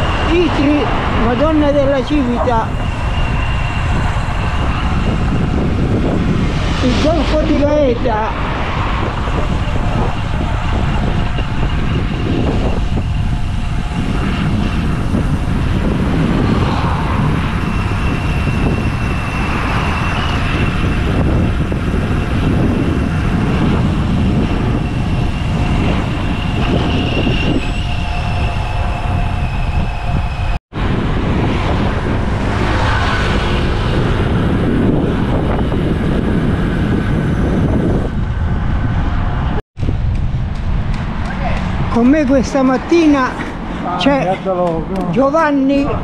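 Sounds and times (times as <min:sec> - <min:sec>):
bicycle road noise: 0:00.0 - 0:46.0
passing traffic: 0:00.0 - 0:46.0
wind rumble: 0:00.0 - 0:46.0.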